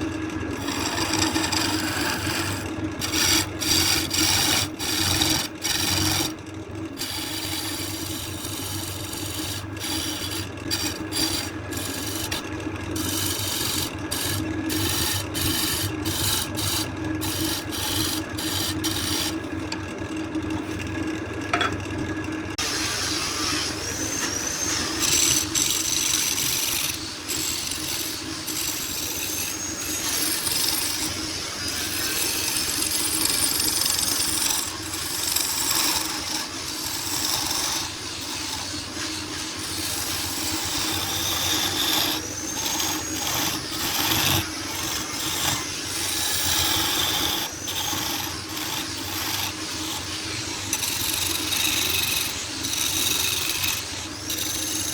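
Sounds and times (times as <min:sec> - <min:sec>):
power tool cutting wood: 0:00.6 - 0:06.4, 0:07.0 - 0:19.4, 0:22.6 - 0:54.9.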